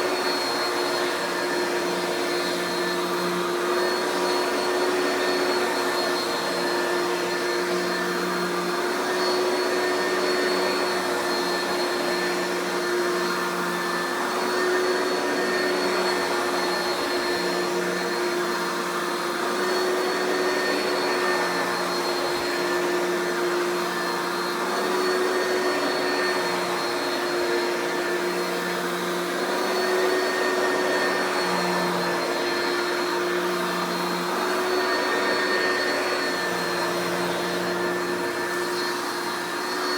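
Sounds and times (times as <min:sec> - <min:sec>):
upright vacuum motor whine: 0:00.0 - 0:39.9.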